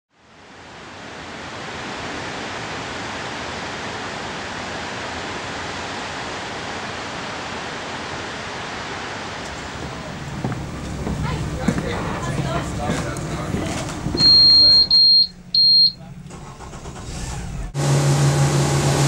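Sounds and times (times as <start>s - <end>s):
ocean surf roaring: 0.2s - 19.0s.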